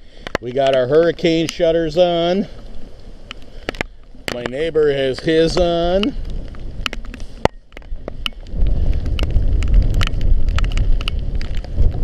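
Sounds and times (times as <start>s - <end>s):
gusty wind on microphone: 0.0s - 12.0s.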